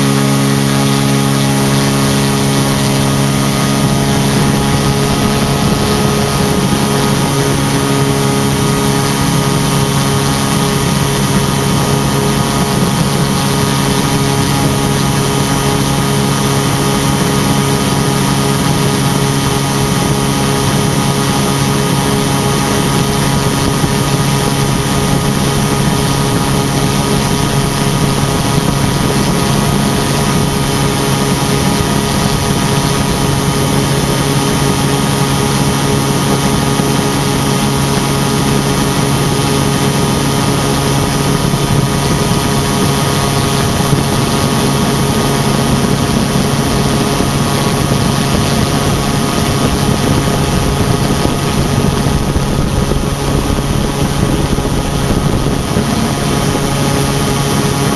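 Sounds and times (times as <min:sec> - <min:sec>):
rushing wind: 0:00.0 - 0:57.9
ultralight engine and propeller droning: 0:00.0 - 0:57.9.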